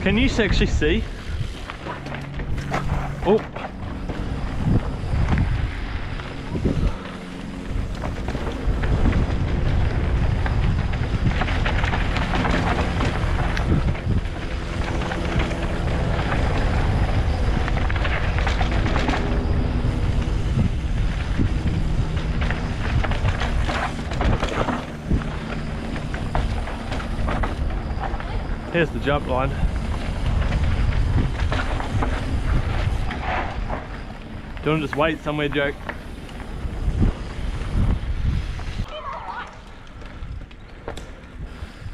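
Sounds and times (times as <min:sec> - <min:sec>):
tyres rumbling on dirt: 0:00.0 - 0:39.0
bike rattling over bumps: 0:00.0 - 0:41.9
wind buffeting microphone: 0:00.0 - 0:41.9.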